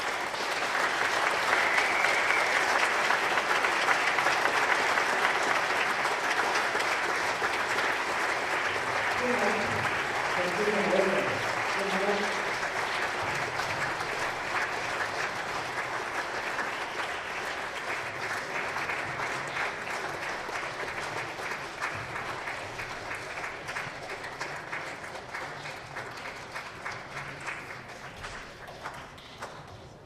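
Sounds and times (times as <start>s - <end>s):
audience applauding: 0.0s - 30.0s.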